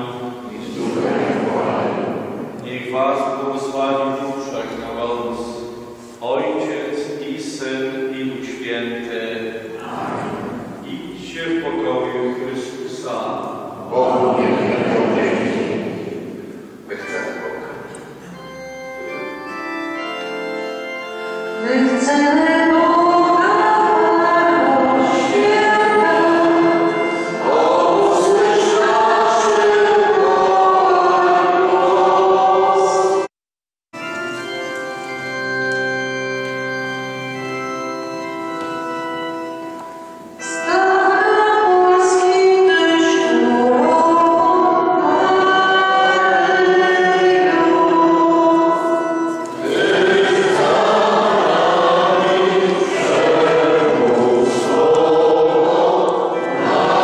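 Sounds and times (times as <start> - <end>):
church organ: 0.0 - 33.3, 34.0 - 57.0
voices singing a hymn: 0.0 - 33.3, 34.0 - 57.0.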